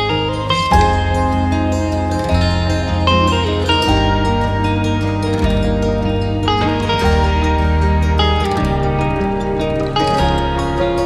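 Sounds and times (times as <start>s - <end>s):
plucked guitar notes: 0.0s - 11.0s
steady bass line: 0.0s - 11.0s.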